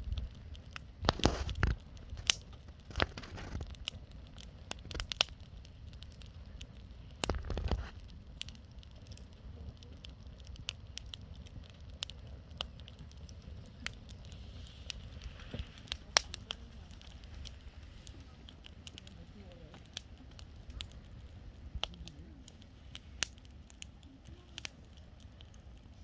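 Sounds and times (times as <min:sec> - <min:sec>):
burning wood popping: 0:00.0 - 0:26.0
low fire rumble: 0:00.0 - 0:26.0.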